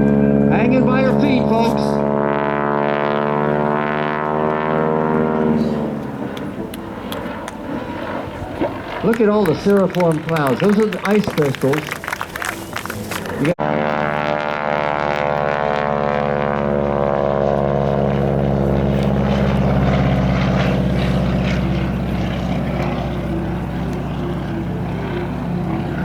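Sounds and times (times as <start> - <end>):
propeller airplane engine droning: 0.0 - 26.0.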